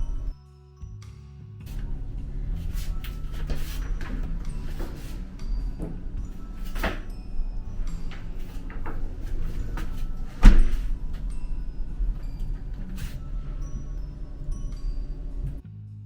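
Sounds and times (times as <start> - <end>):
steady low hum: 0.0 - 0.3, 1.7 - 15.6
door banging shut: 1.7 - 15.6.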